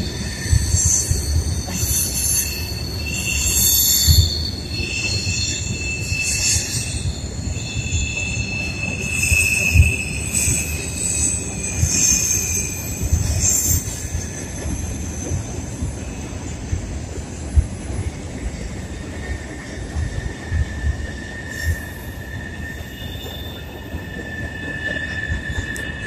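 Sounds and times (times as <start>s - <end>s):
train rumbling on trestle: 0.0s - 26.0s
train wheels squealing: 0.0s - 26.0s.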